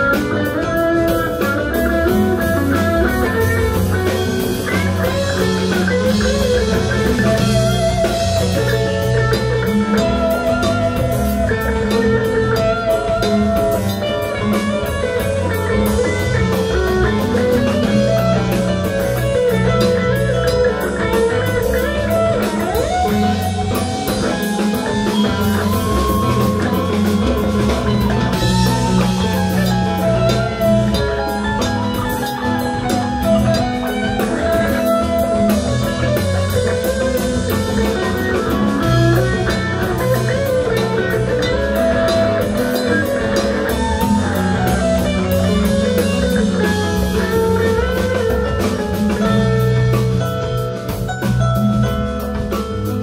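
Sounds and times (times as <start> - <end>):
electric guitar: 0.0 - 53.0
live band playing: 0.0 - 53.0.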